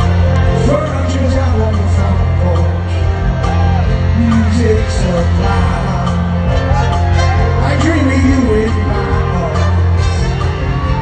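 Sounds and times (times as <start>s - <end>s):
live rock band playing: 0.0s - 11.0s
strong bass: 0.0s - 11.0s.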